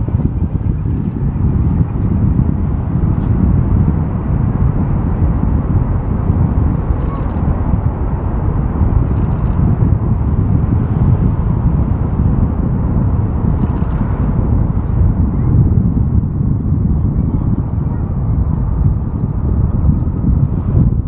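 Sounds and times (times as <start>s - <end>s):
jet engines at takeoff thrust: 0.0s - 21.0s.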